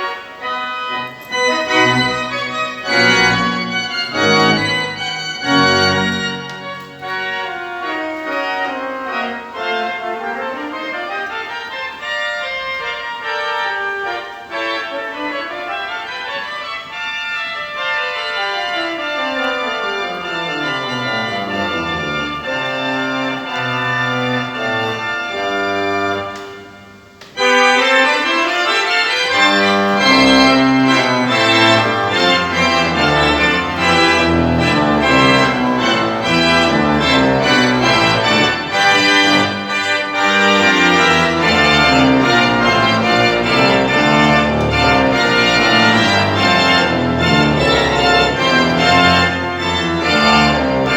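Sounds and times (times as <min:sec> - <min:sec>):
pipe organ playing: 0:00.0 - 0:50.9.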